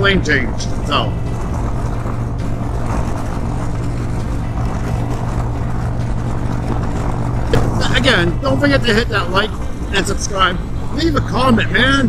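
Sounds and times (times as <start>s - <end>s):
motorcycle engine running: 0.0s - 12.0s
wind rush over microphone: 0.0s - 12.0s.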